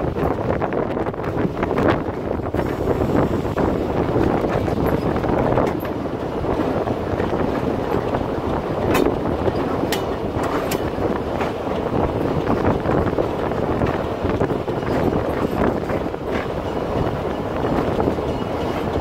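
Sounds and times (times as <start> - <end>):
diesel engine rumble: 0.0 - 19.0
train wheels on rails: 0.0 - 19.0
wind on microphone: 0.0 - 19.0.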